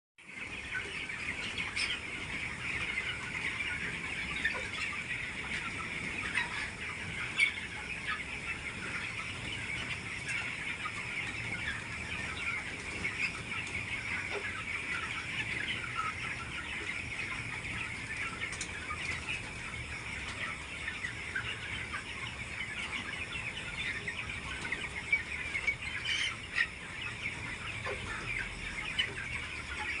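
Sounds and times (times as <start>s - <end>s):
chickens calling: 0.3s - 30.0s.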